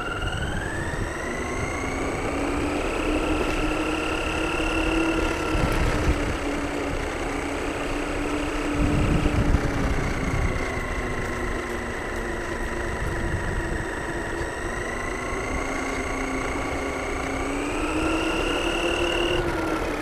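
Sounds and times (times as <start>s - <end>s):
model car motor whining: 0.0s - 20.0s.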